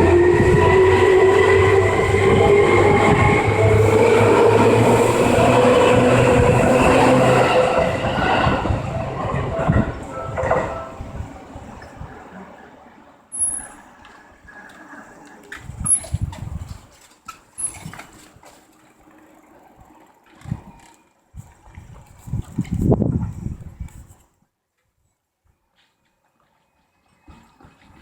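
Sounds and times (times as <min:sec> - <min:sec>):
wheel and rail rumble: 0:00.0 - 0:24.0.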